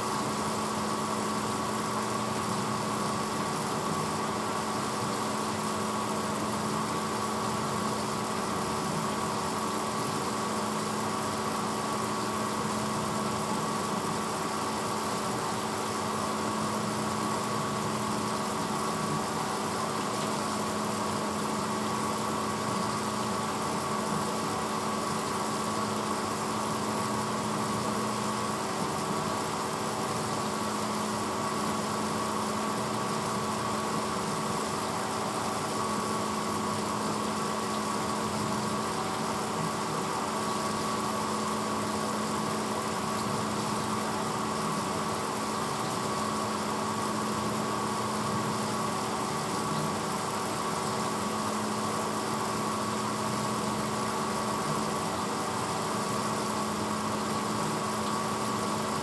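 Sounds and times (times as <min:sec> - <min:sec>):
dishwasher motor hum: 0:00.0 - 0:59.0.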